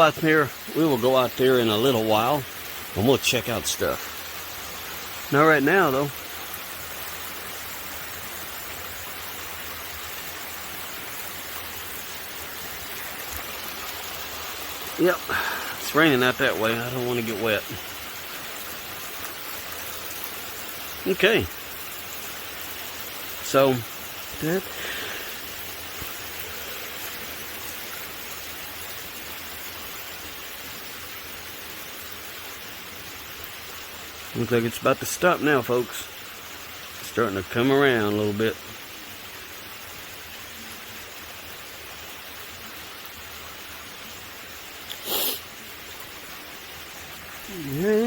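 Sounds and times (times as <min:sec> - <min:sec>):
steady rain: 0:00.0 - 0:48.0.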